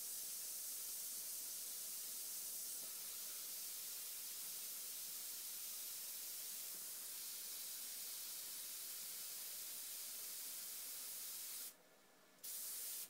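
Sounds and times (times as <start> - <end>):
airbrush hissing: 0.0 - 11.8, 12.4 - 13.0.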